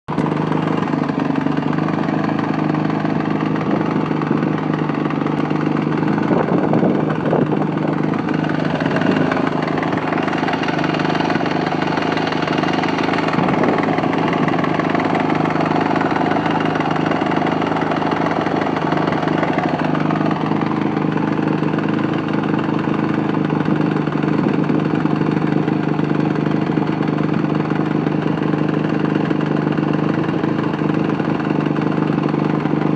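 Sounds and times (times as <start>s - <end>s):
engine knocking: 0.0s - 32.9s
motorcycle engine idling: 0.1s - 32.9s.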